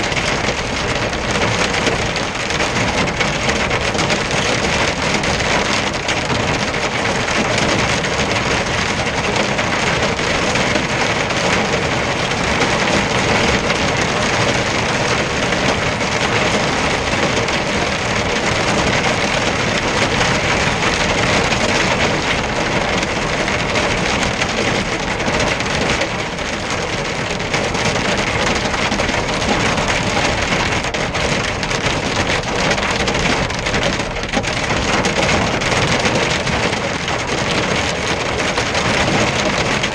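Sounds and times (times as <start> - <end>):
hail and rain on vehicle roof: 0.0 - 39.9.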